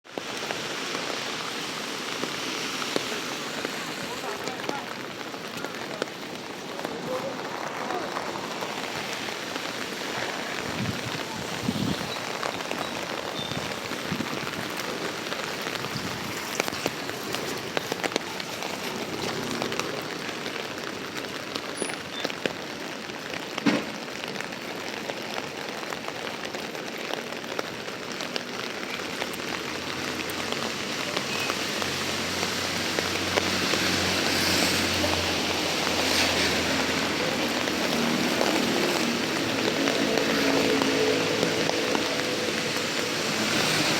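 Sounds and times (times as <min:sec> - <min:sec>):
rain pattering on surfaces: 0:00.0 - 0:43.9.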